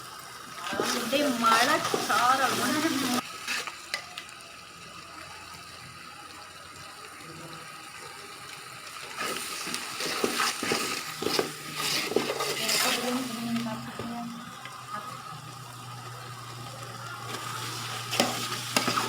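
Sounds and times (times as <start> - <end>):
water pouring into a pot: 0.0 - 19.0.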